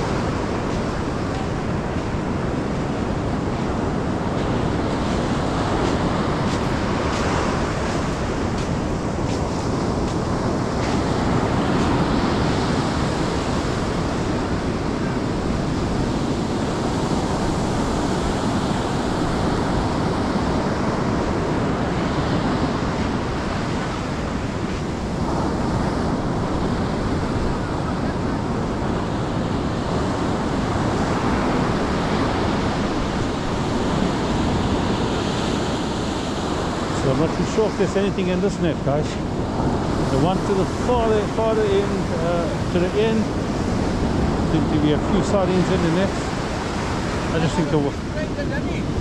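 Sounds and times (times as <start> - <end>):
surf breaking on a beach: 0.0 - 49.0
wind buffeting microphone: 0.0 - 49.0.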